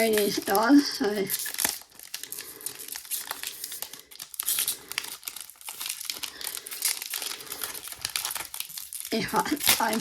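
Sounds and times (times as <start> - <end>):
wrapper crinkling and tearing: 0.0 - 10.0.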